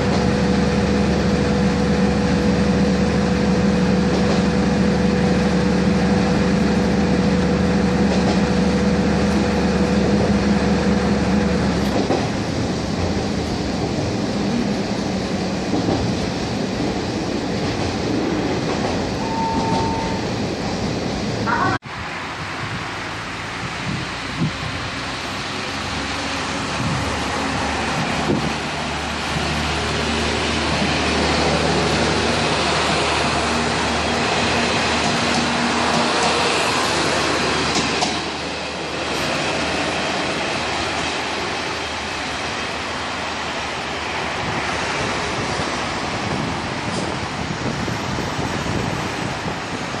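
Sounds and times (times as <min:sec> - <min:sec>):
wheel and rail noise: 0:00.0 - 0:50.0.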